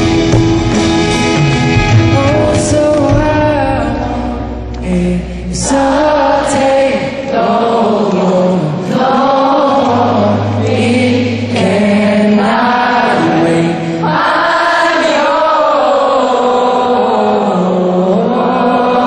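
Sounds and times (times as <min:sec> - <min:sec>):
acoustic guitar: 0:00.0 - 0:19.0
several voices singing together: 0:02.2 - 0:19.0.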